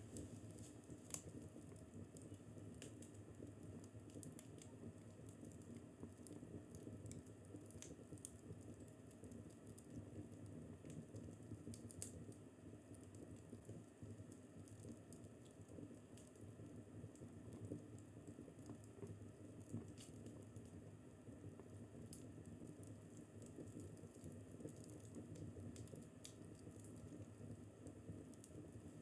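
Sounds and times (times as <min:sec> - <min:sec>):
fire crackling and popping: 0:00.0 - 0:29.0
soft low fire rumble: 0:00.0 - 0:29.0.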